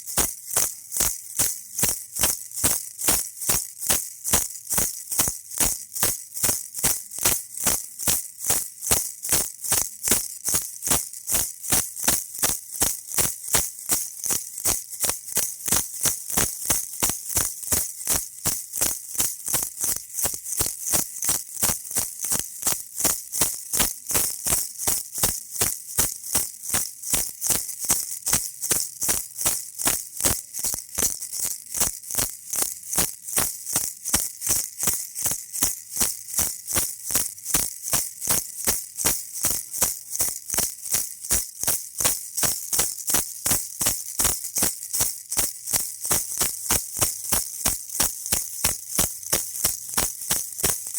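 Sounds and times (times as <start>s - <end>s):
baby rattle shaking: 0.0s - 50.9s.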